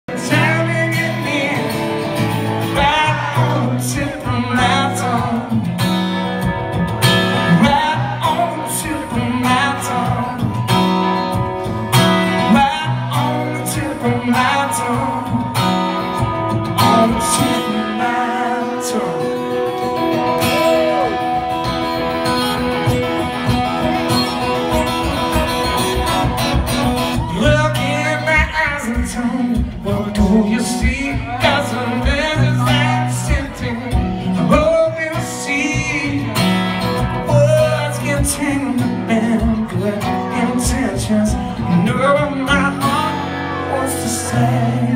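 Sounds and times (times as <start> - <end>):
man singing: 0.0 - 44.9
guitar playing: 0.1 - 44.9.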